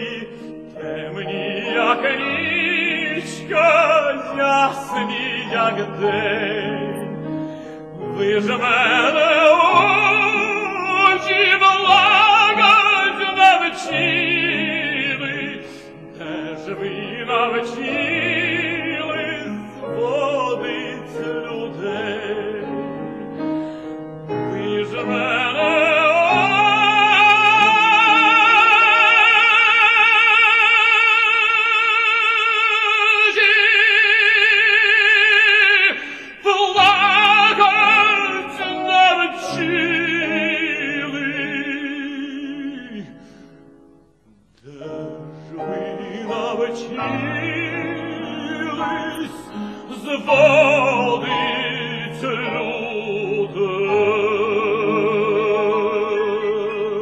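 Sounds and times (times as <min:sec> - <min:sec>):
operatic tenor singing: 0:00.0 - 0:43.4, 0:44.6 - 0:57.0
piano accompaniment: 0:00.0 - 0:57.0.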